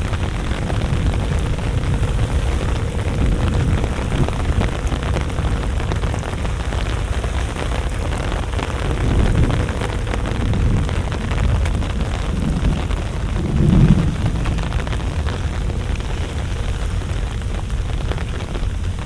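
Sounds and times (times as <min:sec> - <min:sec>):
deep continuous rumble: 0:00.0 - 0:19.0
fine crackling ticks: 0:00.0 - 0:19.0.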